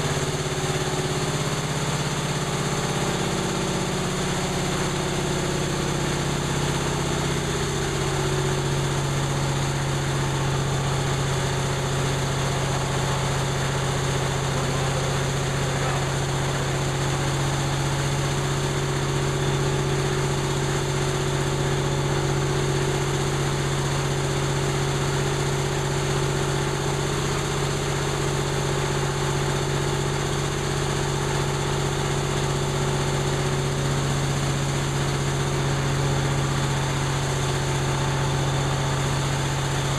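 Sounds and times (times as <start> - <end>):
diesel compressor running: 0.0 - 39.9.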